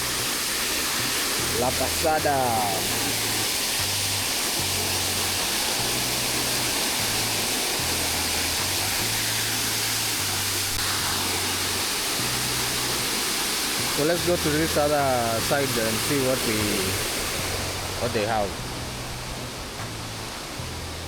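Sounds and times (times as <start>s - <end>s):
music bass line: 0.0s - 21.0s
waterfall rushing: 0.0s - 21.0s.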